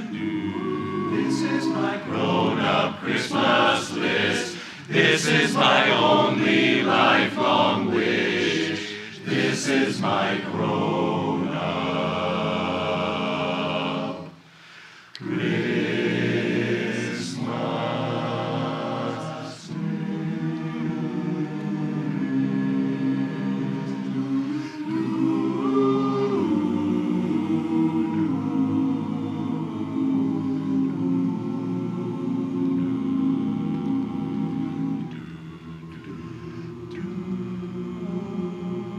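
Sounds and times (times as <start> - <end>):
chorus singing a cappella: 0.0 - 38.9.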